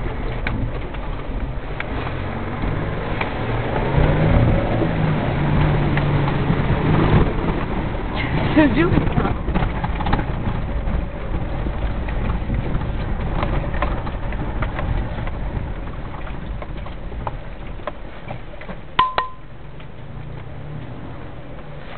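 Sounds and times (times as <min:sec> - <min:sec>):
vehicle cabin rumble: 0:00.0 - 0:21.9.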